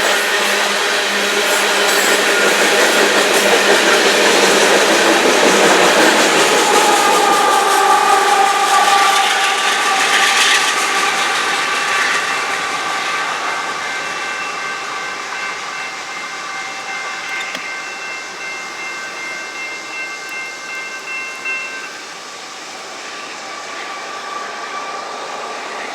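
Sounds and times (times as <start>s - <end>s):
high ringing of train wheels: 0.0s - 25.9s
train wheels rumbling: 0.0s - 25.9s.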